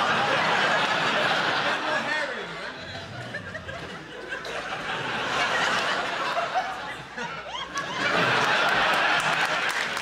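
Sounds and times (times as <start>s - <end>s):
audience laughing: 0.0s - 10.0s.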